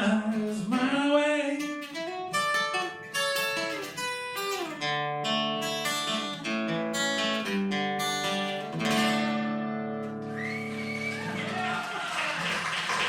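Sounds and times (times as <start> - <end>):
acoustic guitar playing: 0.0 - 11.4.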